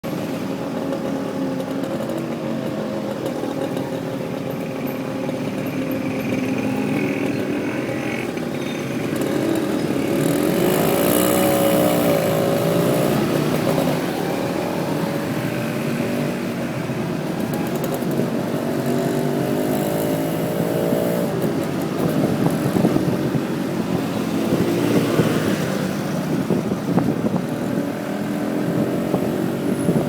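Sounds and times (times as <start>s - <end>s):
road and wind noise: 0.0s - 30.0s
motorcycle engine running: 0.1s - 30.0s.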